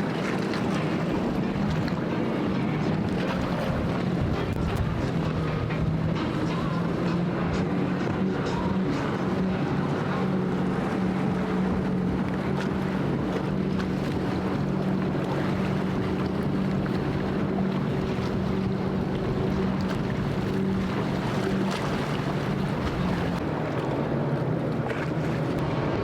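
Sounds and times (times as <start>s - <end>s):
wind on microphone: 0.0s - 24.1s
boat engine humming: 0.0s - 26.0s
rushing water: 0.0s - 26.0s.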